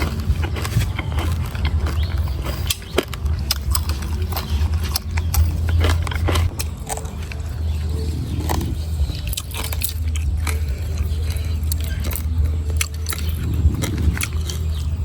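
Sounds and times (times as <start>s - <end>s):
crunchy biting and chewing: 0.0s - 15.0s
steady low hum: 0.0s - 15.0s.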